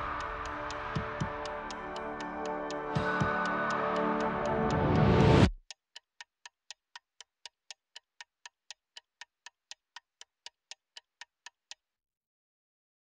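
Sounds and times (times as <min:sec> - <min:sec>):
faint clock ticking: 0:00.0 - 0:11.8.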